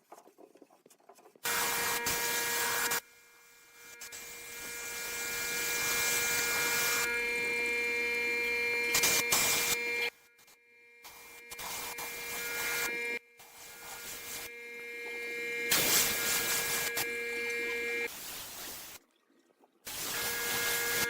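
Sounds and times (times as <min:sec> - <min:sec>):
electric power tool whining: 0:01.5 - 0:18.1, 0:19.9 - 0:21.0.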